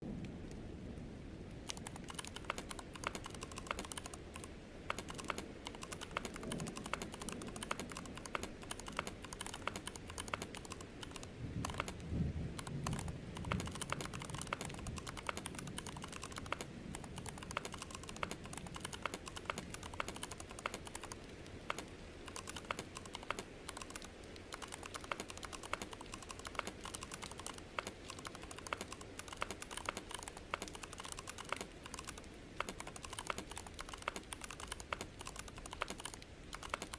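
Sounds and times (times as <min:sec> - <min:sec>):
keyboard typing: 0:01.6 - 0:36.9.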